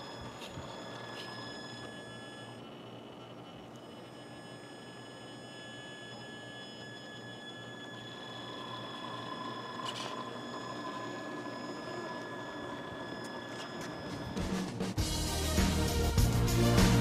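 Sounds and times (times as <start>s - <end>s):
high electric motor whine: 0.0s - 15.4s.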